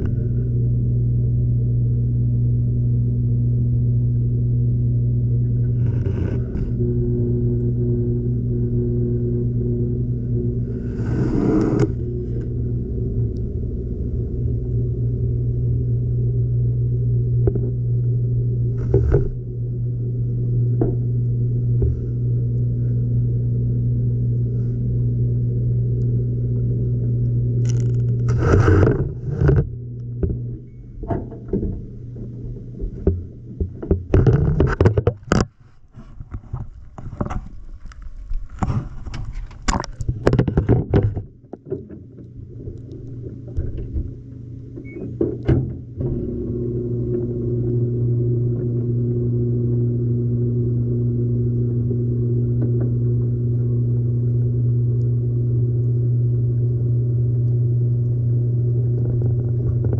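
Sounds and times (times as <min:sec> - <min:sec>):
washing machine motor hum: 0:00.0 - 0:35.4, 0:41.2 - 0:59.9.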